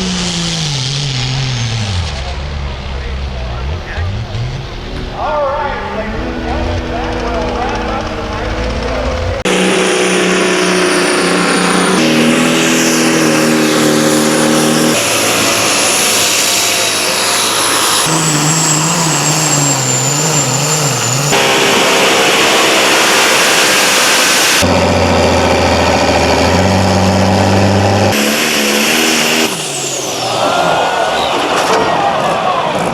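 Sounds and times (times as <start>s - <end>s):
engines revving hard: 0.0s - 32.9s.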